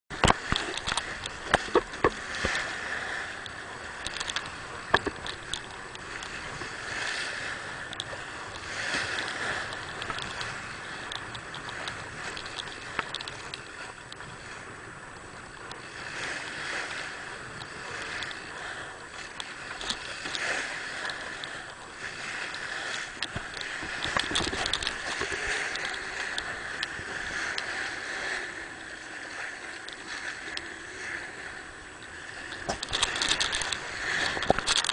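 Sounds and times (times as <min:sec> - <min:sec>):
water splashing along boat hull: 0:00.1 - 0:34.9.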